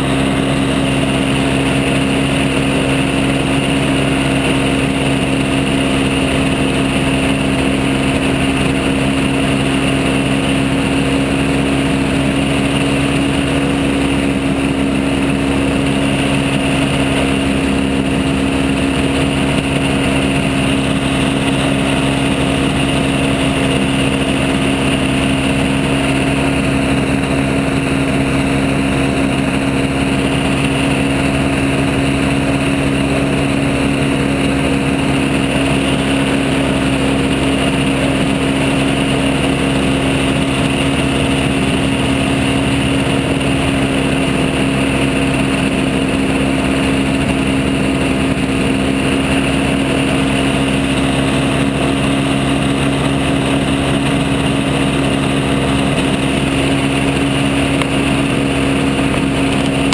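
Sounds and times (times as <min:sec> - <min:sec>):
microlight engine droning: 0:00.0 - 0:59.9.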